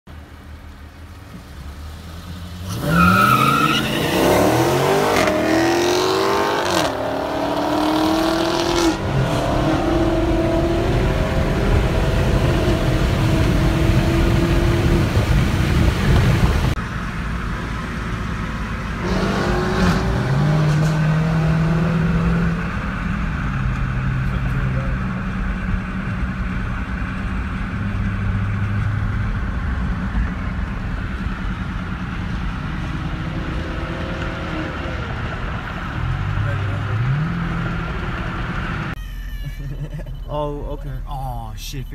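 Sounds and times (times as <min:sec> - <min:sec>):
car engines accelerating: 0:00.2 - 0:39.0.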